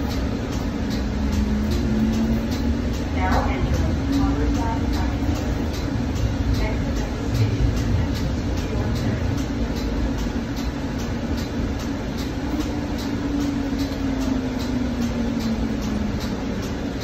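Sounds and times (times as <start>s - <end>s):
faint regular ticking: 0.0s - 17.0s
motor hum: 0.0s - 17.0s
train rumble: 0.0s - 17.0s.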